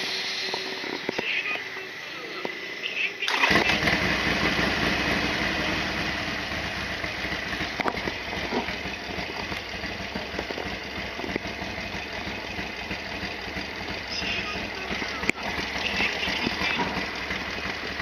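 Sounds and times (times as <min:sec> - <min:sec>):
motorcycle engine idling: 0:03.3 - 0:18.0.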